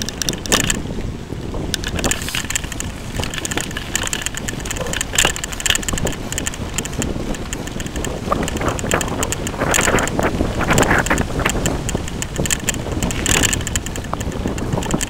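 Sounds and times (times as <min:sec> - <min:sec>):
bicycle rattling on rough asphalt: 0:00.0 - 0:15.0
wind buffeting microphone: 0:00.0 - 0:15.0.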